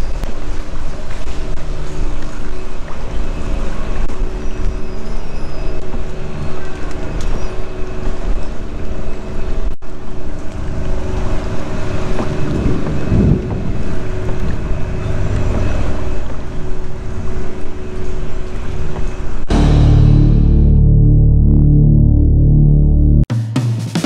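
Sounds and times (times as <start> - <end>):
wind buffeting microphone: 0.0 - 19.6
engine drone: 0.0 - 23.3.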